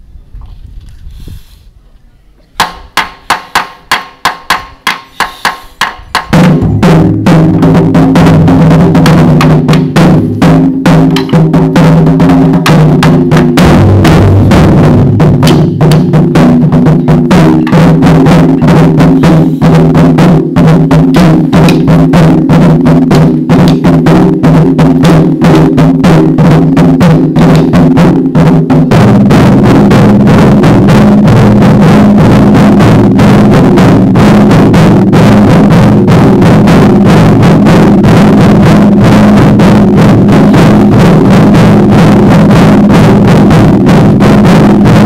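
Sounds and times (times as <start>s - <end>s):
taiko drums: 2.6s - 45.0s.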